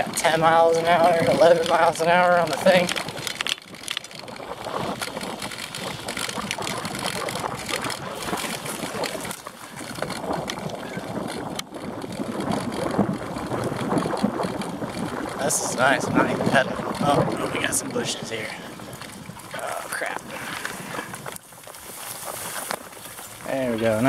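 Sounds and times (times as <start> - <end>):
bike knocks and rattles: 0.0 - 19.4
bike tyres crunching on dirt: 0.0 - 24.0
wind rushing over microphone: 0.0 - 24.0.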